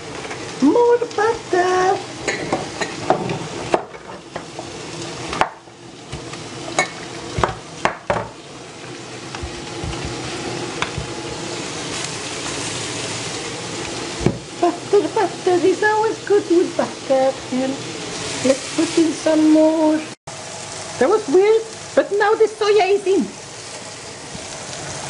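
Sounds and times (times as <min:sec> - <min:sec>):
meatballs sizzling in a pan: 0:00.0 - 0:25.0.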